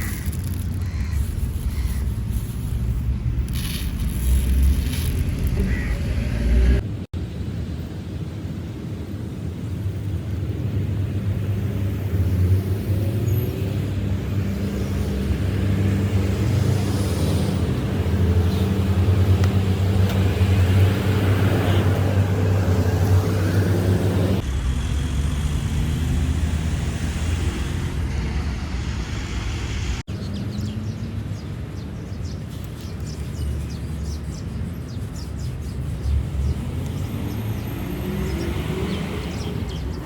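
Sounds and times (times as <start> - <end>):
low rumble of traffic: 0.0 - 40.0.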